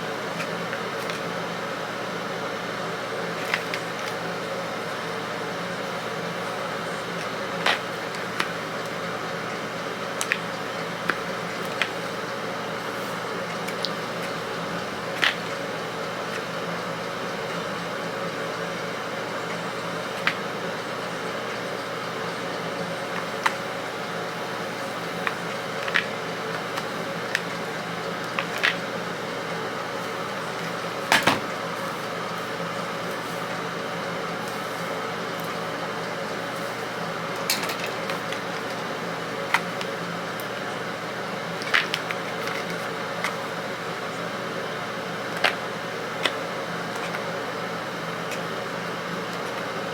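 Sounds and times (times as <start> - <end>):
steady mechanical hum: 0.0 - 49.9.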